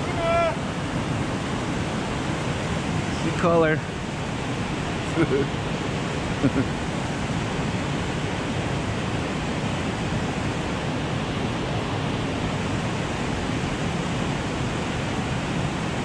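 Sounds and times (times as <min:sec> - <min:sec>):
whitewater rushing: 0:00.0 - 0:16.0.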